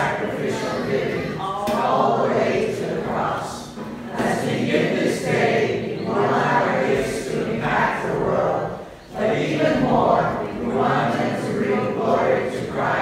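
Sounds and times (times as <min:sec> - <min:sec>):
congregation singing a hymn: 0:00.0 - 0:13.0.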